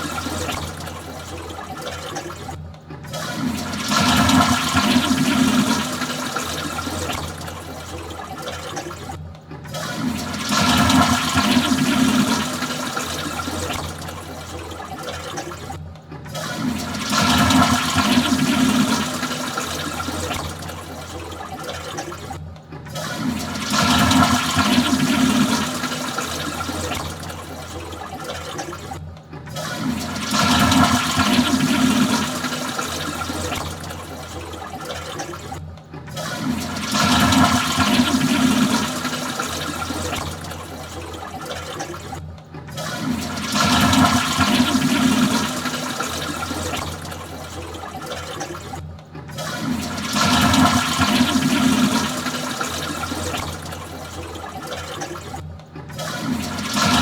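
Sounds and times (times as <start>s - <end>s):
water running: 0.0s - 35.5s, 36.1s - 57.0s
toilet flushing: 0.0s - 57.0s.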